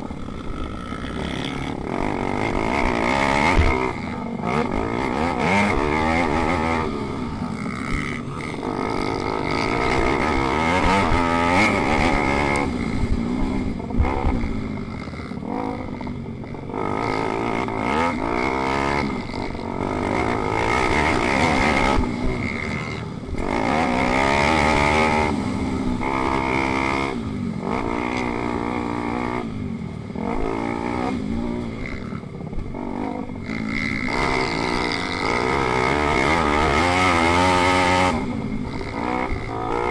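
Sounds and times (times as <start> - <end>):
pit bike engine racing: 0.0 - 39.9.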